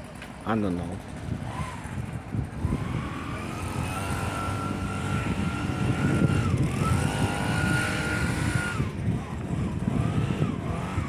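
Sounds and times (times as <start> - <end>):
vehicle engine accelerating: 1.4 - 11.0.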